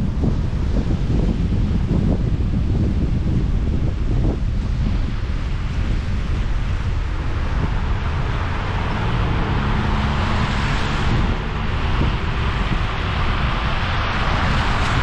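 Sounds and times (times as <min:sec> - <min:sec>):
car road noise: 0:00.0 - 0:15.0.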